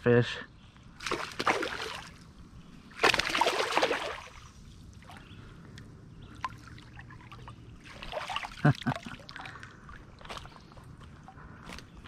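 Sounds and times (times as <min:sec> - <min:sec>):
creek water splashing: 0:01.0 - 0:12.0.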